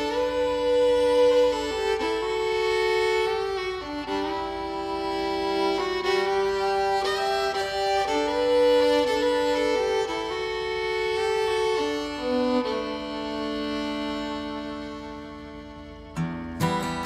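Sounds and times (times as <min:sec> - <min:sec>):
fiddle playing slow tune: 0:00.0 - 0:17.0.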